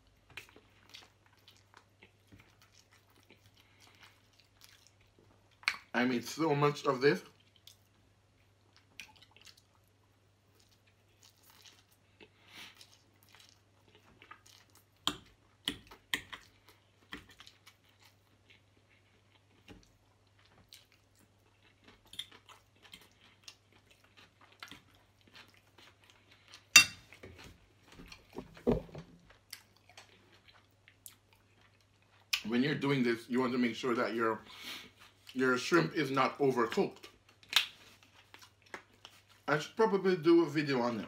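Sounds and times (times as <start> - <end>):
close chewing: 0.0 - 5.9, 7.2 - 28.6, 29.2 - 32.6, 34.0 - 39.8.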